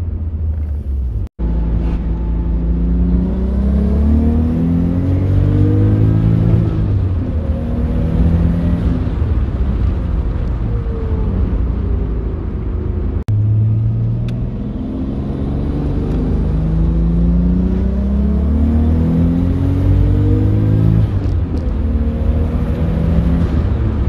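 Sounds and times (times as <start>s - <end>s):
car engine accelerating hard: 1.4s - 10.4s, 13.0s - 24.0s.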